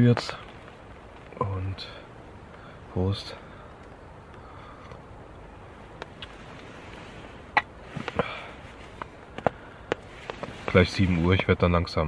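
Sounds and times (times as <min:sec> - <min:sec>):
steady faint hiss: 0:00.0 - 0:12.0.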